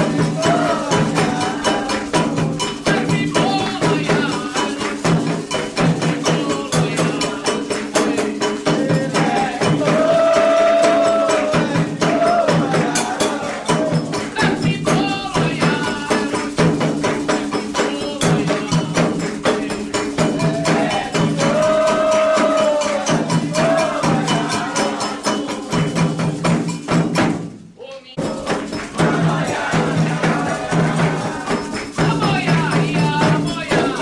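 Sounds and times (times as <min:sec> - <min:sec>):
chanted singing: 0:00.0 - 0:16.7, 0:17.6 - 0:26.2, 0:28.1 - 0:34.0
bell and rattle pattern: 0:00.0 - 0:27.6, 0:28.2 - 0:34.0
fast hand drumming: 0:00.0 - 0:27.6, 0:28.2 - 0:34.0.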